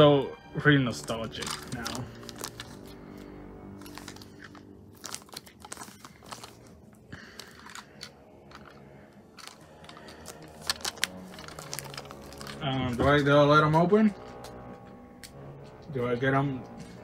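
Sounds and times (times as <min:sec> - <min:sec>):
plastic bag crinkling: 0:00.9 - 0:15.0.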